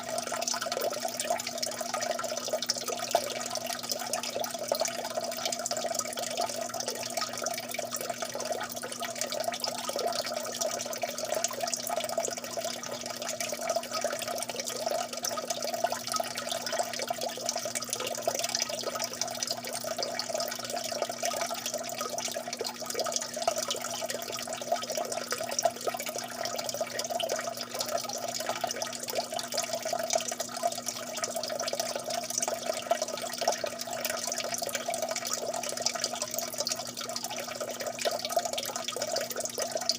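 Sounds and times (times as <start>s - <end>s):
water dripping and trickling: 0.0s - 39.9s.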